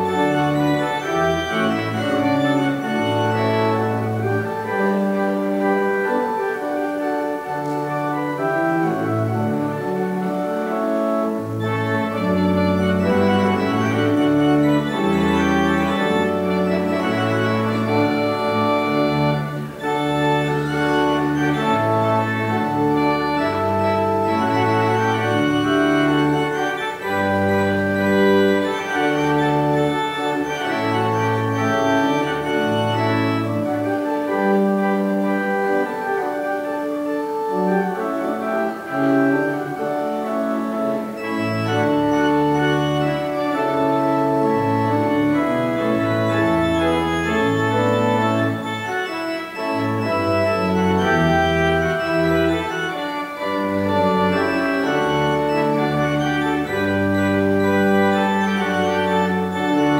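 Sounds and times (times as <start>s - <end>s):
organ playing chords: 0.0s - 59.9s.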